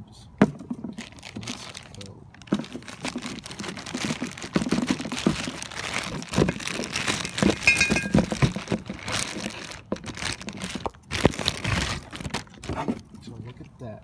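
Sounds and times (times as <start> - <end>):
plastic packaging crinkling and tearing: 0.8 - 13.1.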